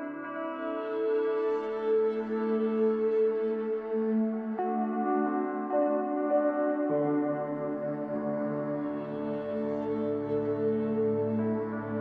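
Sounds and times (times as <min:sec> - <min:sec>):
ambient synth pad music: 0:00.0 - 0:12.0.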